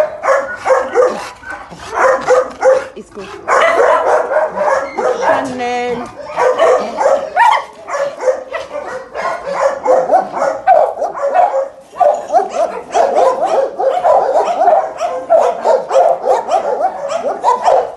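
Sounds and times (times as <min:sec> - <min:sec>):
dogs barking: 0:00.0 - 0:17.9.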